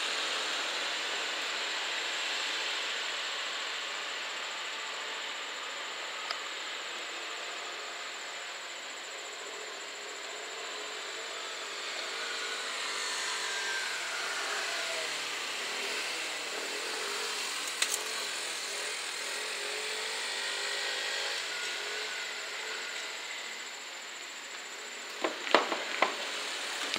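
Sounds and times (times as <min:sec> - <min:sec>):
wavering whine: 0:00.0 - 0:26.9.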